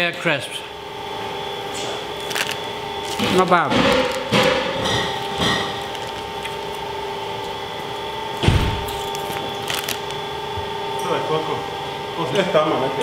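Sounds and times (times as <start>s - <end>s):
two-tone equipment hum: 0.0s - 13.0s.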